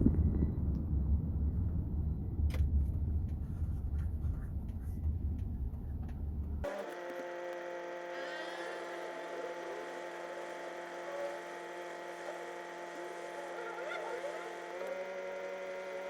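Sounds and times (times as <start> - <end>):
car interior driving drone: 0.0 - 16.0.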